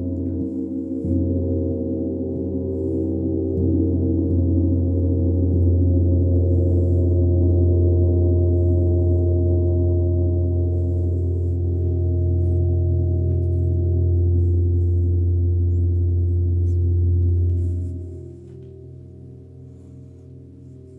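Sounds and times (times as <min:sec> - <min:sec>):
deep steady hum: 0:00.0 - 0:20.9.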